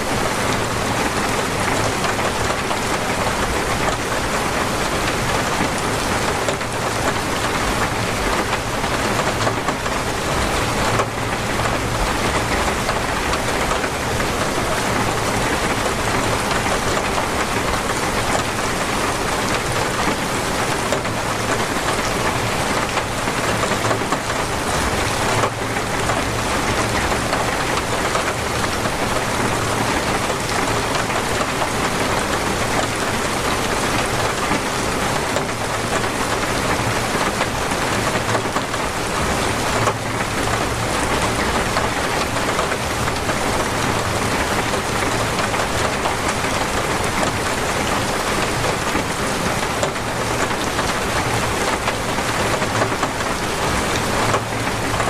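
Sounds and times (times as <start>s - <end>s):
torrential rain pouring: 0.0s - 55.0s.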